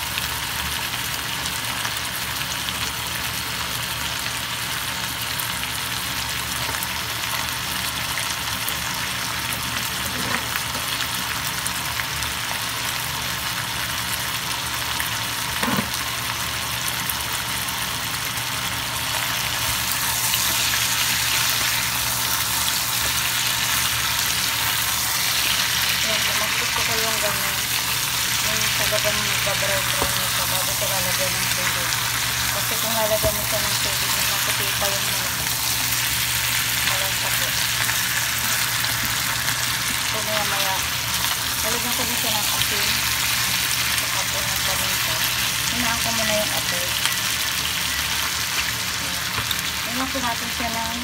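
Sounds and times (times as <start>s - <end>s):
chicken sizzling in a pan: 0.0s - 51.0s.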